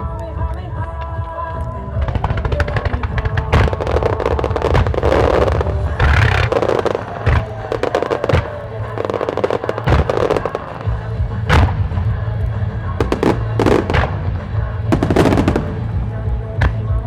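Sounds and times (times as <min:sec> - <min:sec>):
fireworks bursting with crackling: 0:00.0 - 0:17.0
pop song with bass beat: 0:00.0 - 0:17.0.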